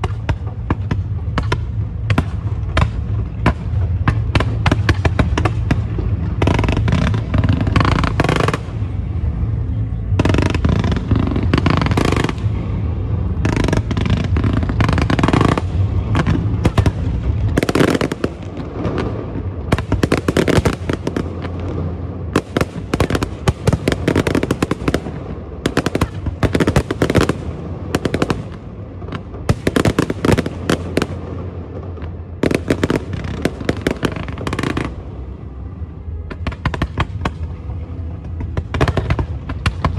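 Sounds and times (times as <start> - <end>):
fireworks cracks and bangs: 0.0 - 35.4, 36.1 - 39.9
heavy low rumble: 0.0 - 39.9.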